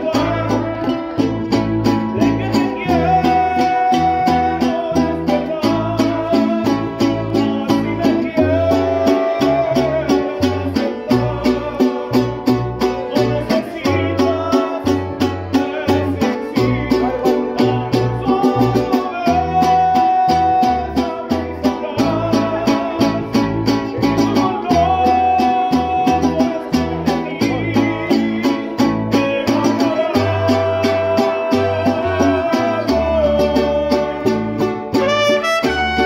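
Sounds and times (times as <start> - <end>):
bass line: 0.0 - 36.0
man singing: 0.0 - 36.0
strummed strings: 0.0 - 36.0.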